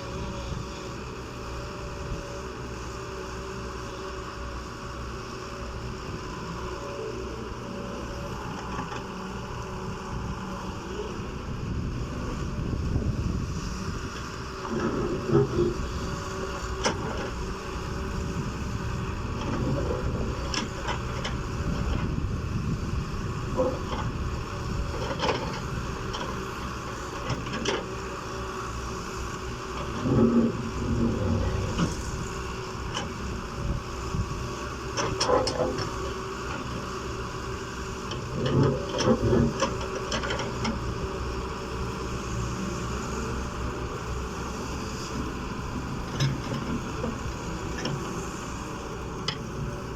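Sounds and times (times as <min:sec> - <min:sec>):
excavator diesel engine running: 0:00.0 - 0:49.9
excavator digging knocks and clatter: 0:05.4 - 0:10.0, 0:10.6 - 0:49.9.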